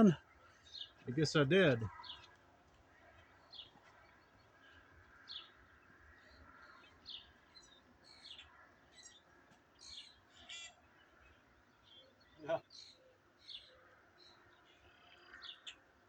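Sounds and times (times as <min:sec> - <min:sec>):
faint birdsong chirps: 0:00.0 - 0:16.0.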